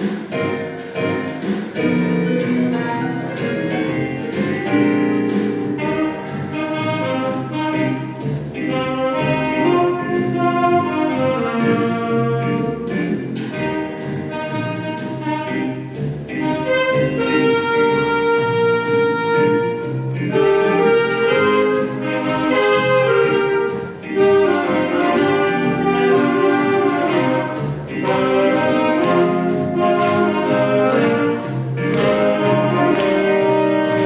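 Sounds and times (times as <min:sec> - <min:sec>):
orchestral accompaniment: 0:00.0 - 0:34.0
saxophones playing slow melody: 0:05.8 - 0:12.7, 0:13.6 - 0:34.0.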